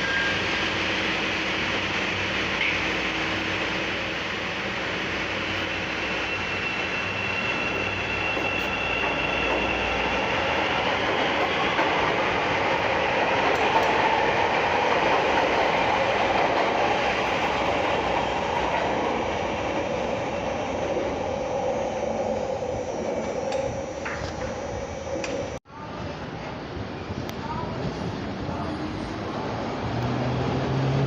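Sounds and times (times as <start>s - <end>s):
train running on rails: 0.0s - 31.0s.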